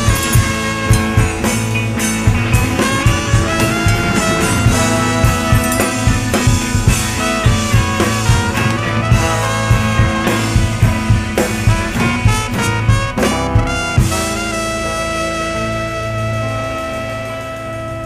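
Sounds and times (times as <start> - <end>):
brass playing swing music: 0.0 - 18.0
drum kit beat: 0.0 - 18.0.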